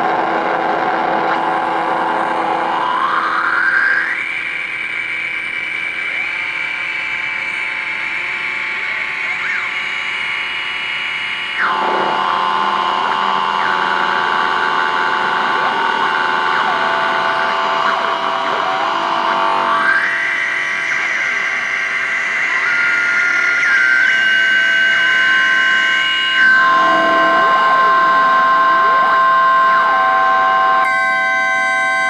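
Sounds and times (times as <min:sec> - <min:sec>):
electronic oscillator tones: 0:00.8 - 0:32.0.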